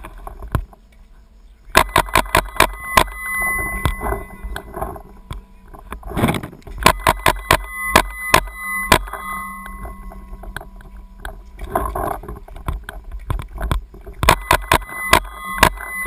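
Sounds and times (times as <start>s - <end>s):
wind rumble: 2.0s - 16.0s.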